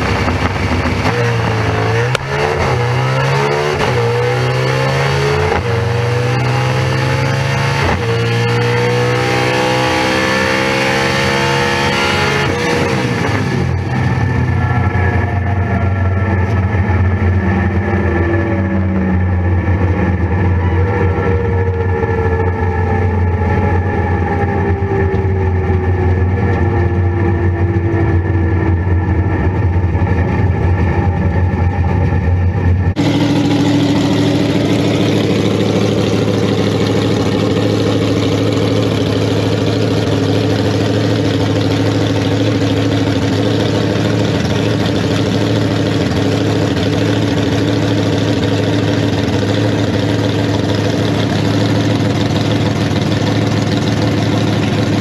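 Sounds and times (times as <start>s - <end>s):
rough noisy engine idling: 0.0s - 9.4s, 12.4s - 55.0s
racing car engine idling: 0.0s - 55.0s.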